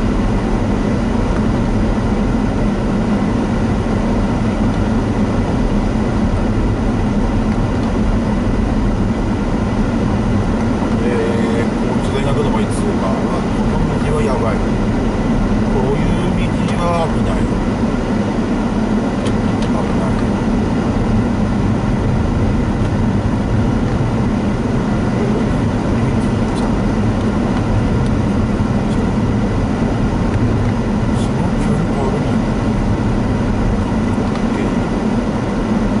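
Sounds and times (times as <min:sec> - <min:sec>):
low engine hum: 0:00.0 - 0:36.0.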